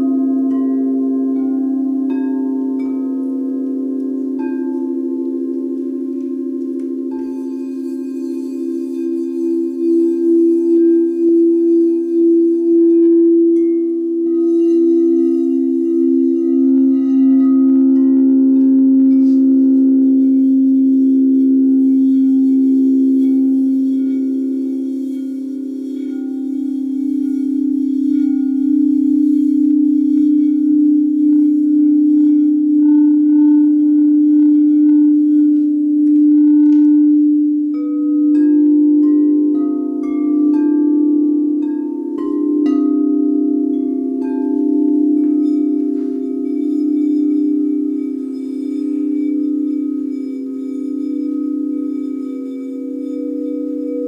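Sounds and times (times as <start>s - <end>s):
higher singing bowl notes: 0.0s - 54.0s
singing bowls deep tones: 0.0s - 54.0s.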